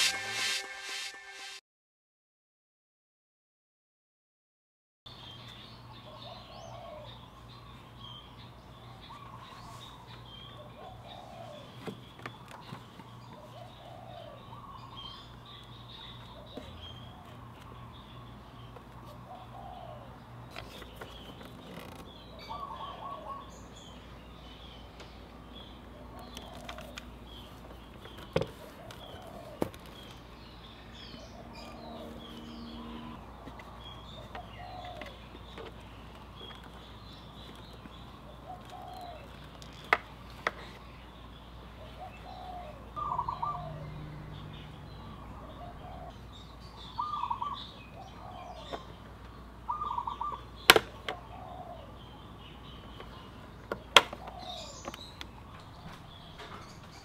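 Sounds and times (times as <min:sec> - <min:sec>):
birds chirping: 0:05.1 - 0:57.0.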